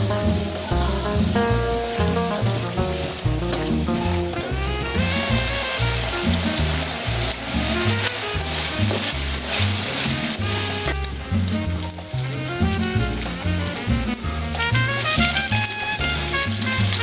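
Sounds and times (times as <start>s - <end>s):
background music with bass line: 0.0s - 17.0s
food sizzling in a pan: 0.0s - 17.0s.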